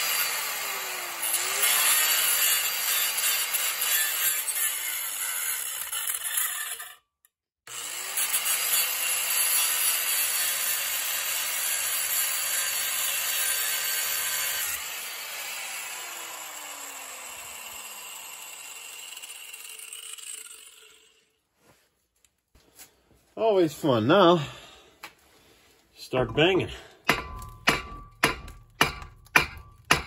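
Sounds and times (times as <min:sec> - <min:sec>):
angle grinder cutting steel: 0:00.0 - 0:07.0, 0:07.7 - 0:21.4, 0:26.1 - 0:30.0.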